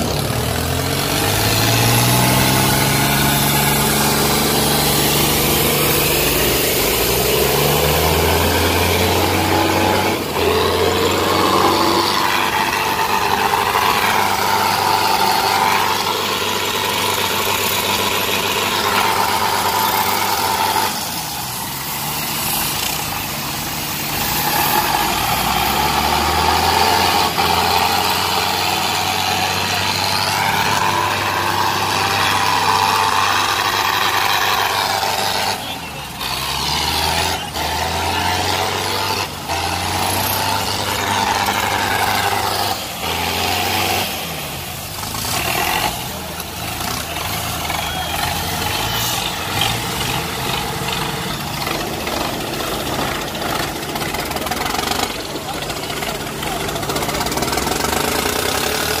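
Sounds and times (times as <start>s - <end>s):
tractor diesel engines revving: 0.0s - 59.0s.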